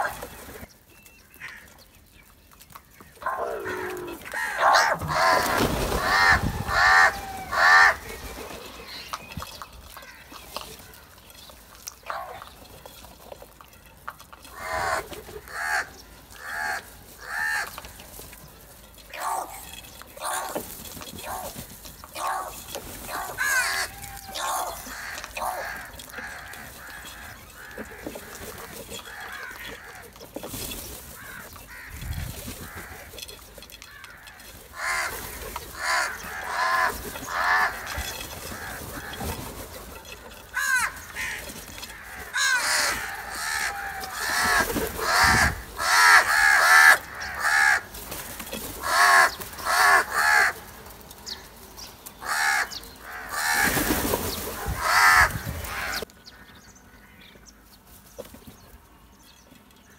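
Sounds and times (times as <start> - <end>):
crows cawing: 1.3 - 1.8, 3.0 - 8.4, 9.9 - 11.2, 14.4 - 18.2, 19.1 - 51.6, 52.2 - 57.3.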